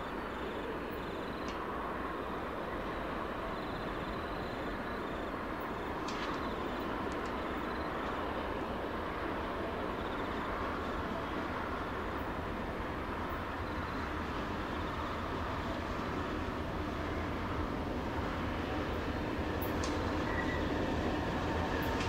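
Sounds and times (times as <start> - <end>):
diesel locomotive engines running: 0.0 - 22.0.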